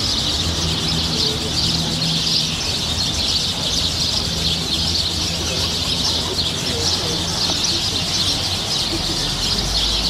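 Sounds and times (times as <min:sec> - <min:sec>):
many birds chirping: 0:00.0 - 0:10.0.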